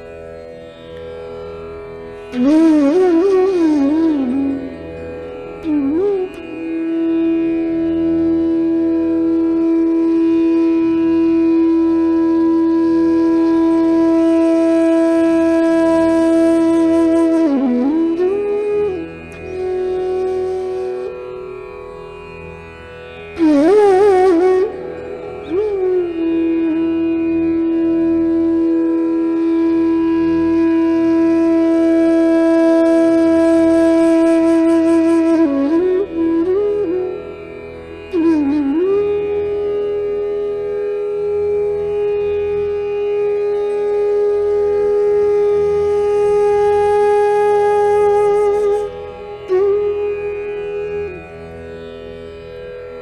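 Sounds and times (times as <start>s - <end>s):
instrumental music long note: 0.0s - 53.0s.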